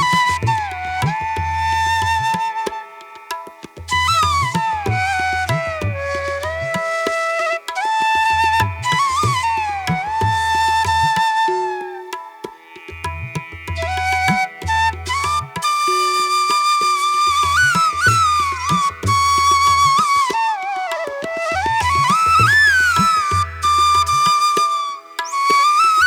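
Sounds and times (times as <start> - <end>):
flute-like melody: 0.0 - 26.0.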